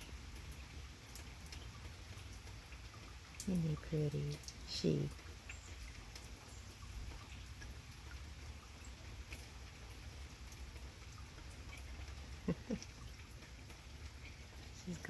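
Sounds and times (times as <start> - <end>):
faint drips: 0.0 - 15.0
light rain pattering: 0.0 - 15.0.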